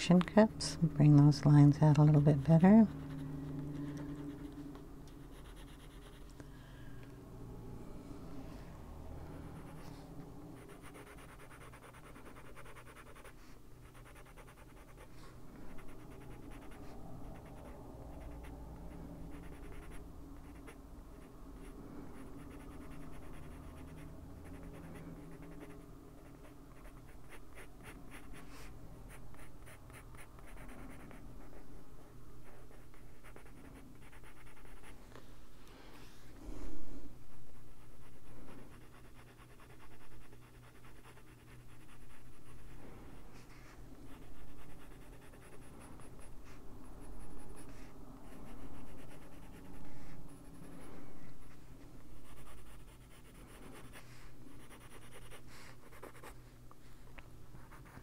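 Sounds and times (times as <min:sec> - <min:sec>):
colored pencil scratching on paper: 0:00.3 - 0:06.3, 0:09.5 - 0:31.8, 0:32.4 - 0:35.0, 0:37.3 - 0:51.6, 0:52.2 - 0:56.4, 0:57.6 - 0:58.0.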